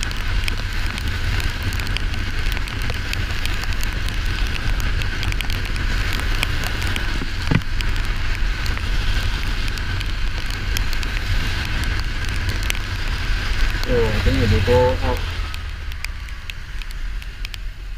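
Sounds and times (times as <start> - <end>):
low steady rumble: 0.0 - 17.9
raindrops ticking: 0.0 - 17.9.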